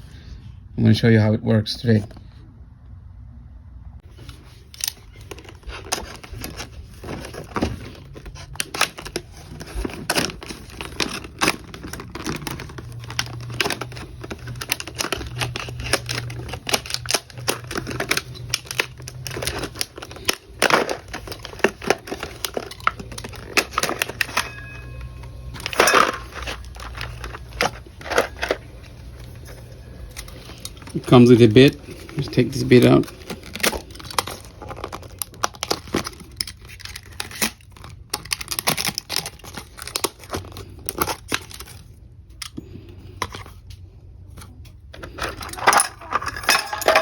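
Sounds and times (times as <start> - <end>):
plastic packaging crinkling: 4.0 - 43.8, 44.4 - 47.0.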